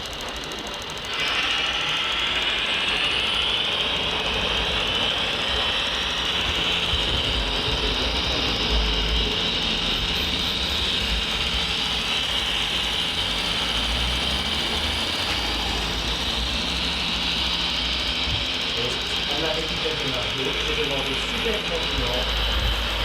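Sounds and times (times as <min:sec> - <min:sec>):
model machinery whirring: 0:00.0 - 0:23.0.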